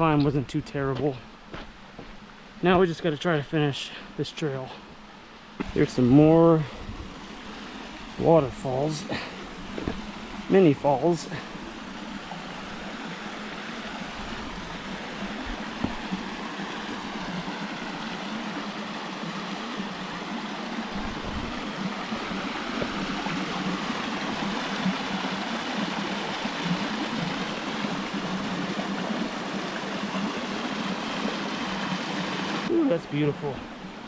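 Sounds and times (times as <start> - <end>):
small waterfall rushing: 0.0 - 34.0.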